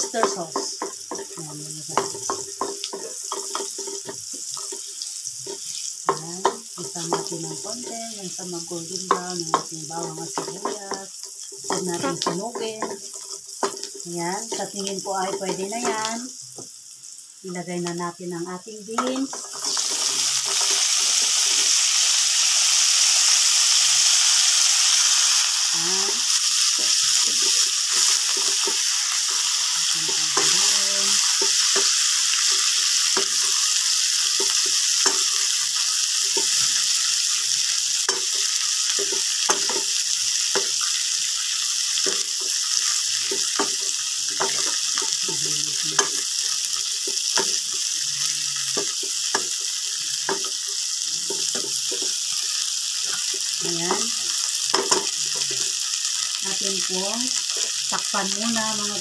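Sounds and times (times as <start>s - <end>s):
beans sizzling in a wok: 0.0s - 59.0s.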